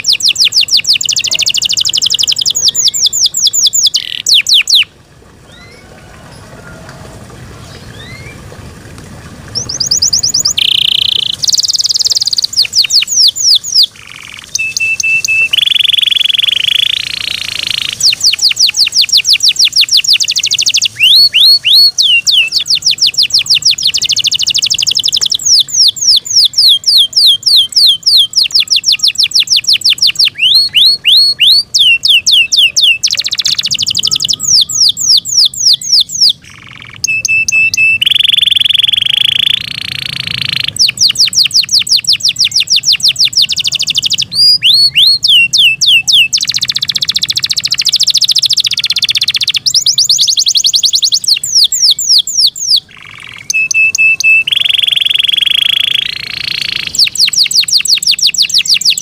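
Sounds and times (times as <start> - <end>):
canary singing trills: 0.0 - 6.0, 7.6 - 8.4, 9.5 - 59.0.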